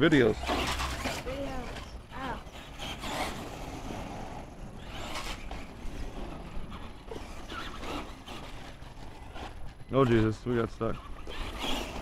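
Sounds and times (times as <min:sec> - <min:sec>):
toy trucks driving on asphalt: 0:00.0 - 0:12.0.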